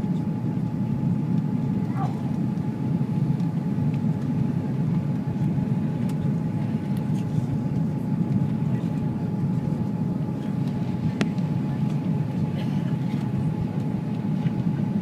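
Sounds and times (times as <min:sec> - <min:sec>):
airliner cabin roar: 0:00.0 - 0:15.0.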